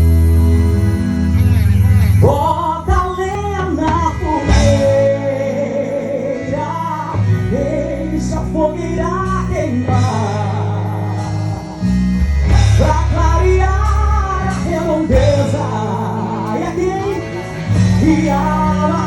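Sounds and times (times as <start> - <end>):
bass: 0.0 - 19.0
guitar: 0.0 - 19.0
person singing: 2.2 - 11.9, 12.6 - 19.0.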